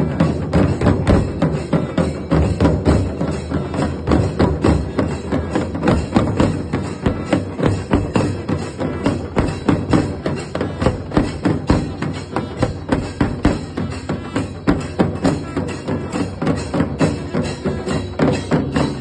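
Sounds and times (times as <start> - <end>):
hand drum beating: 0.0 - 19.0.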